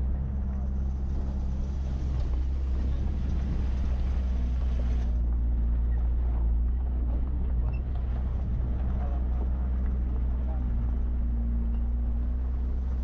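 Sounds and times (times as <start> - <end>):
tyres rumbling on gravel: 0.0 - 13.0
vehicle engine running: 0.0 - 13.0.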